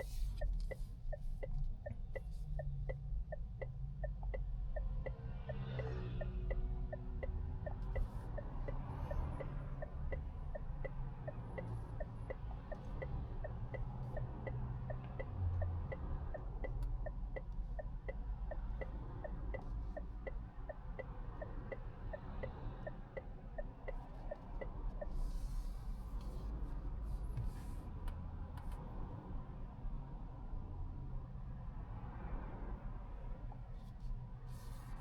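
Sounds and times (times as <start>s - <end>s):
turn signal ticking: 0.0s - 29.1s
road and tyre rumble: 0.0s - 35.0s.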